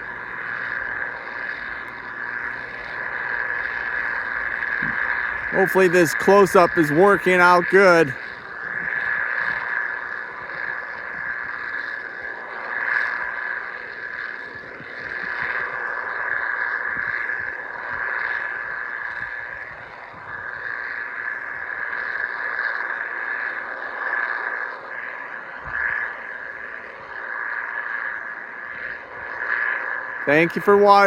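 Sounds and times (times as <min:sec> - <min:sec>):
combine harvester hum: 0:00.0 - 0:31.0
high mechanical whine: 0:00.0 - 0:31.0.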